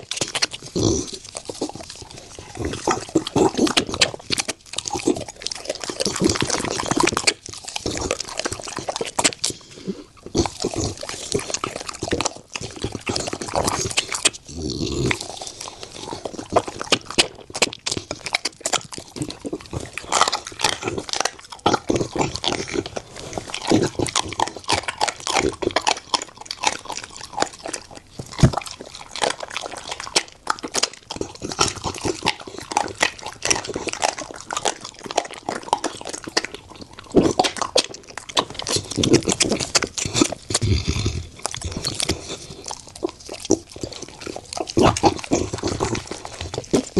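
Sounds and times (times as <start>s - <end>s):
bones crunching: 0.0s - 46.9s
dog chewing wetly: 0.0s - 46.9s.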